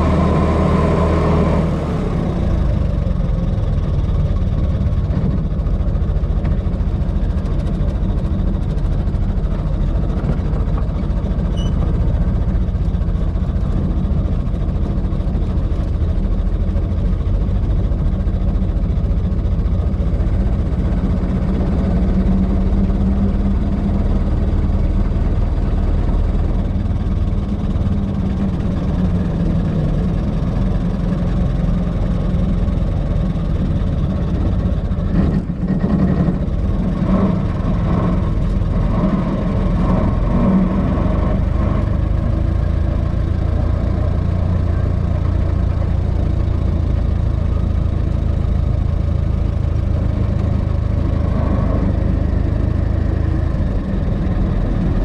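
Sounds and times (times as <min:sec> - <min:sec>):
old car engine running: 0:00.0 - 0:55.0.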